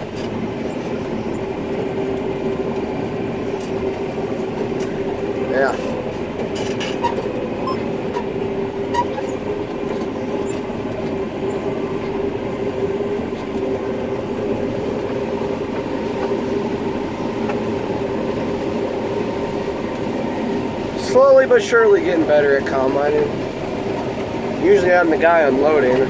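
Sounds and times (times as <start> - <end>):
combine harvester droning: 0.0 - 26.0.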